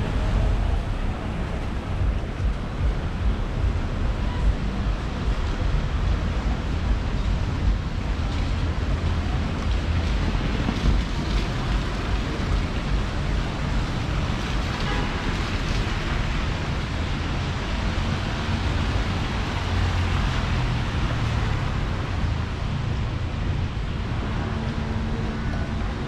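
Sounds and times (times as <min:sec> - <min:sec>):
traffic engine rumble: 0:00.0 - 0:26.0
tyres on wet road: 0:00.0 - 0:26.0.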